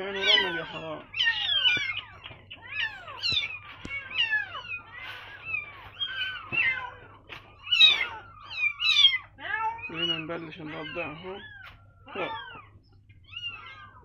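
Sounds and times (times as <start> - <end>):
kittens mewing: 0.0 - 14.0.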